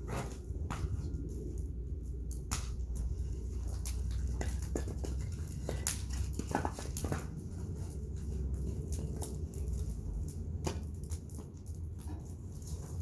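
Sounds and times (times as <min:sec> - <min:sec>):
bonfire pops and crackles: 0:00.0 - 0:13.0
fire low rumble: 0:00.0 - 0:13.0.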